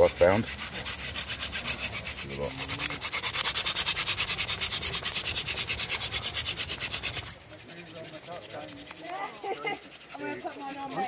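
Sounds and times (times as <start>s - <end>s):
wooden spindle rubbing on board: 0.0s - 11.0s.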